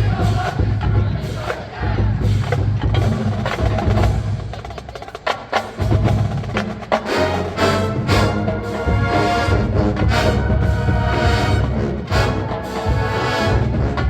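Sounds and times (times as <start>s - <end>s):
marching band playing funk: 0.0s - 14.0s.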